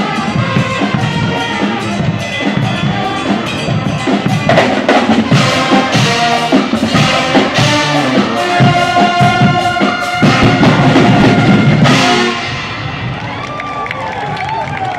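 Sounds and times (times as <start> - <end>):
loud brass band: 0.0 - 14.9
pounding drums and percussion: 0.0 - 14.9.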